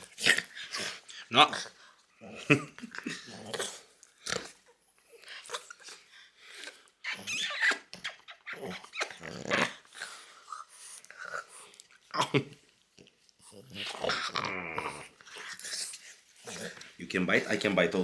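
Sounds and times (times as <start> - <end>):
dog growling and grunting: 0.0 - 18.0.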